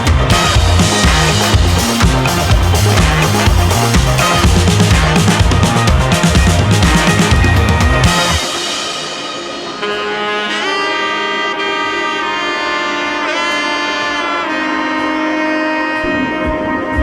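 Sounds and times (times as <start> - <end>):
instrumental music with held notes: 0.0 - 17.0.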